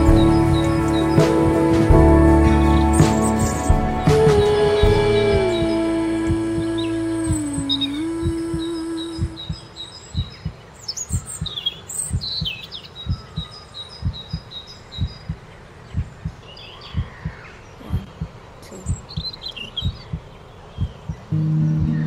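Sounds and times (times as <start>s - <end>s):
heartbeat thumping: 0.0s - 9.6s, 10.2s - 15.4s, 17.0s - 22.0s
birds chirping: 0.0s - 22.0s.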